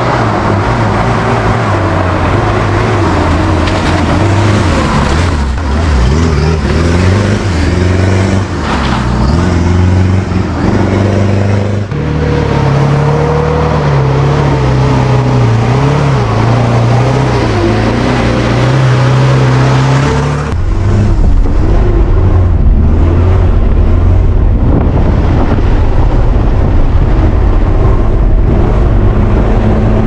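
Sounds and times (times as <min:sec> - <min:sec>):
off-road vehicle engine running: 0:00.0 - 0:30.0.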